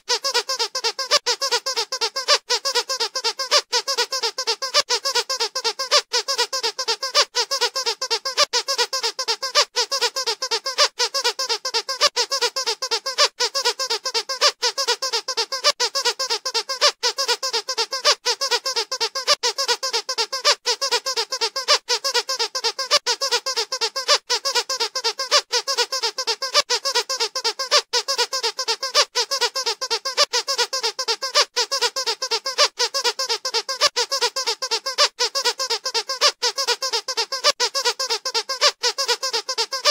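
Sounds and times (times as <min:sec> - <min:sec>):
squeaky dog toy squeaking: 0:00.0 - 0:39.9.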